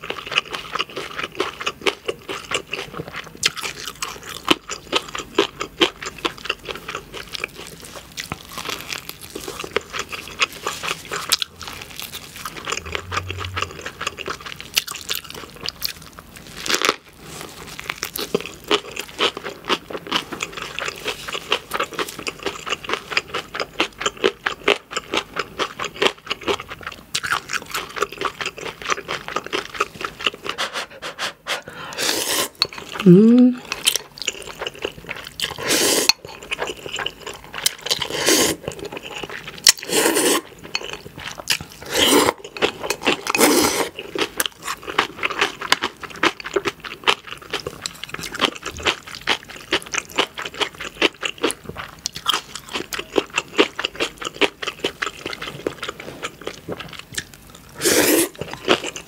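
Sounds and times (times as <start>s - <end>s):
crunchy moist chewing: 0.0s - 59.0s.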